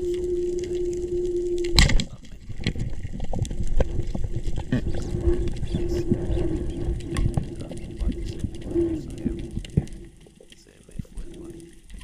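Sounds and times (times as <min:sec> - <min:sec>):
low underwater hum: 0:00.0 - 0:12.0.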